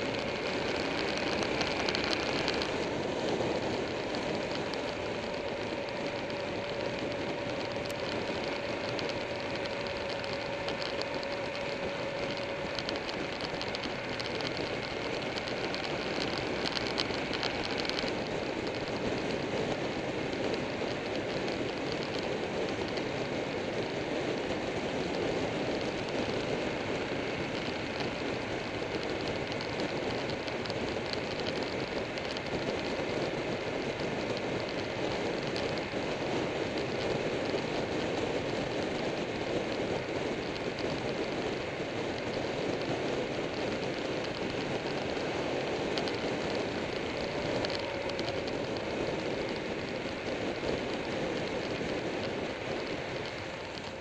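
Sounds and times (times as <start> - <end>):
faint steady engine tone: 0.0 - 54.0
motorcycle engine running: 0.0 - 54.0
wind and road noise: 0.0 - 54.0.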